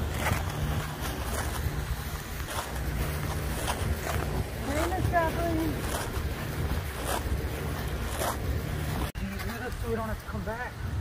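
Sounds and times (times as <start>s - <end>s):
footsteps on grass: 0.0s - 10.1s
wind rumbling on microphone: 0.0s - 11.0s.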